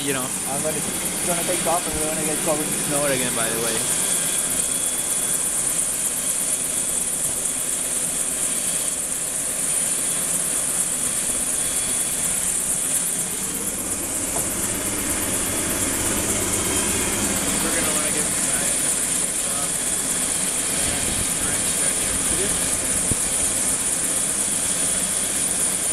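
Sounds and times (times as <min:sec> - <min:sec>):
helicopter turbine whine: 0:00.0 - 0:25.9.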